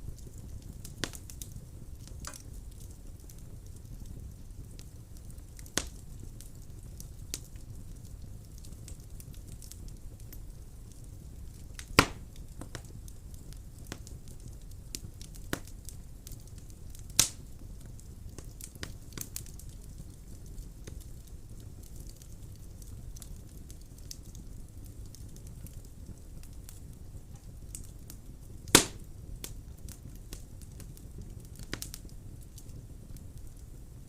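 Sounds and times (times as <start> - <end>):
burning wood crackling and popping: 0.0 - 34.0
low rumble of flames: 0.0 - 34.0.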